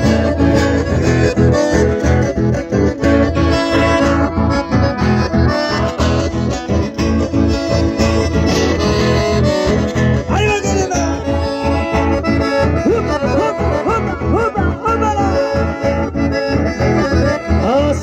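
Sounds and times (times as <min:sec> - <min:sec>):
accordions playing dance tune: 0:00.0 - 0:18.0
acoustic guitar: 0:00.0 - 0:18.0.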